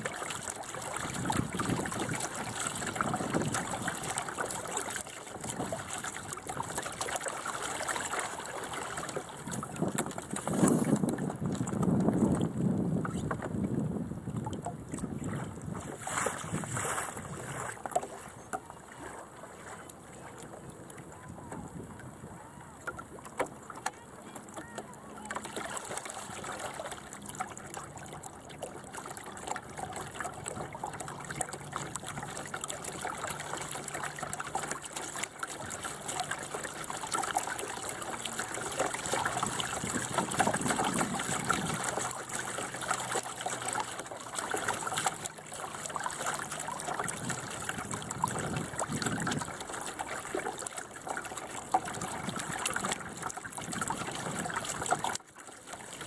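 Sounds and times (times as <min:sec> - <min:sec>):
water gurgling along boat hull: 0:00.0 - 0:56.0.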